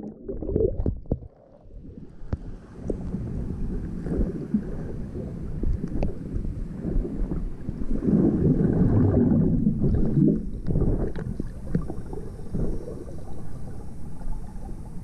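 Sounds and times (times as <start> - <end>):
underwater water churning: 0.0 - 15.0.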